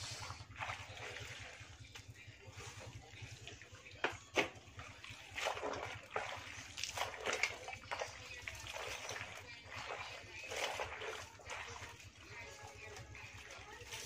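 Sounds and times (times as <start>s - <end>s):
water sloshing and trickling: 0.0s - 14.0s
water splashes: 0.0s - 14.0s.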